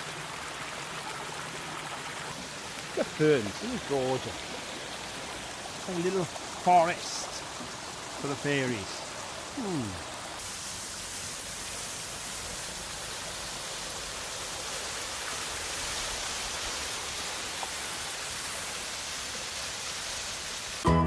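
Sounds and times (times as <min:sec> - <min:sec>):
small waterfall and stream rushing: 0:00.0 - 0:20.8.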